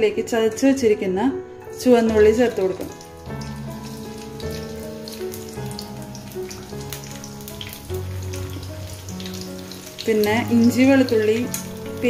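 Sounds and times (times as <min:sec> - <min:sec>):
background music with held notes: 0:00.0 - 0:12.0
shallots sizzling in hot oil: 0:01.8 - 0:12.0.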